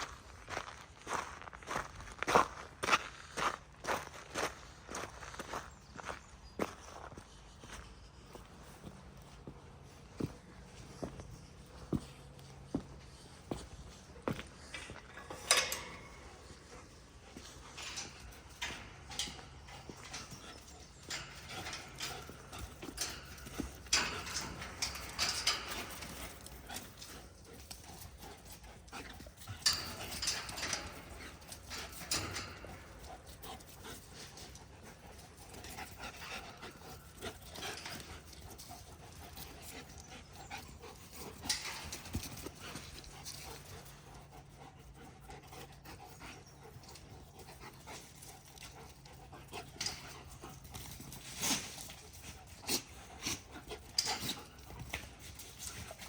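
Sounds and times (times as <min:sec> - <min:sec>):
dogs scuffing and clicking: 0:06.6 - 0:56.0.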